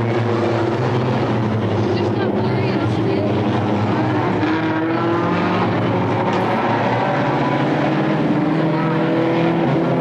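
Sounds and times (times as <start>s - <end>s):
stock car engines running hard: 0.0s - 10.0s.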